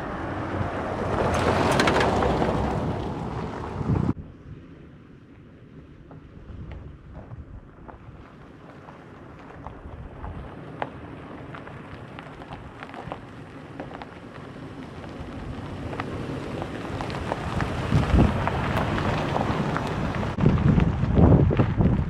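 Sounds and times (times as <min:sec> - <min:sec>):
wind buffeting microphone: 0:00.0 - 0:04.5, 0:06.0 - 0:22.0.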